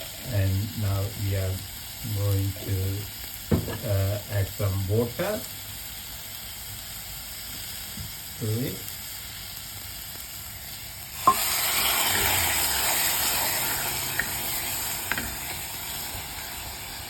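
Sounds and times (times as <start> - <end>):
water sizzling in hot wok: 0.0 - 17.0.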